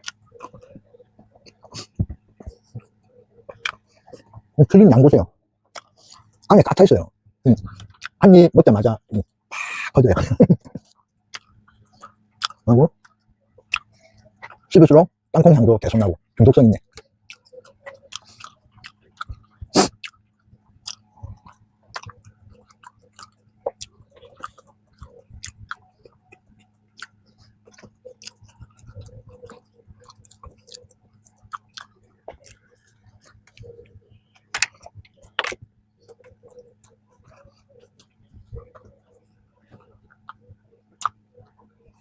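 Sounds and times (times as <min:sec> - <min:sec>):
close chewing with mouth smacks: 0:00.0 - 0:04.6, 0:05.6 - 0:06.5, 0:07.6 - 0:08.2, 0:10.8 - 0:14.7, 0:16.8 - 0:42.0.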